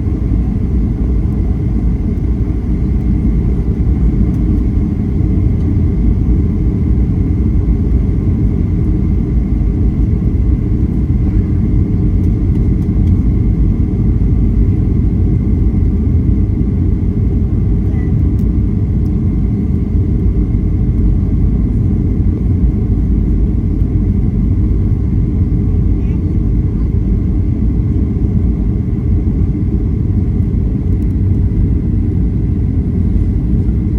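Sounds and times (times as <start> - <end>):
airliner cabin engine roar: 0.0 - 33.9.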